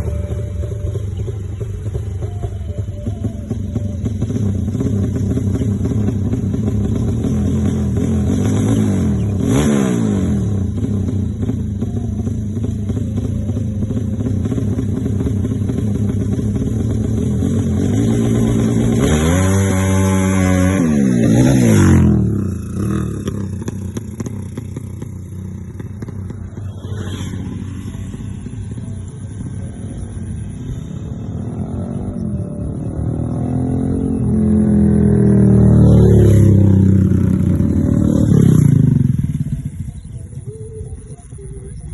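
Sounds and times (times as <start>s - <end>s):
engine idling and revving: 0.0s - 41.9s.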